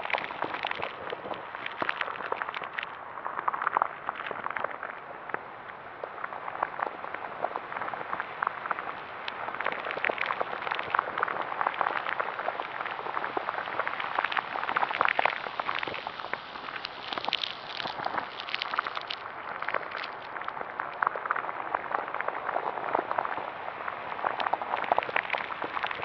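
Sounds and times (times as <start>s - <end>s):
crackling and bubbling pops: 0.0s - 26.0s.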